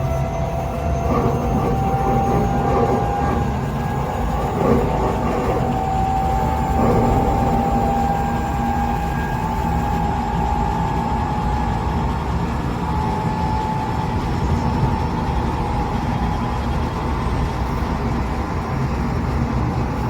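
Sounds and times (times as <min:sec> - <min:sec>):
train low rumble: 0:00.0 - 0:20.0
train motor whine: 0:00.0 - 0:20.0.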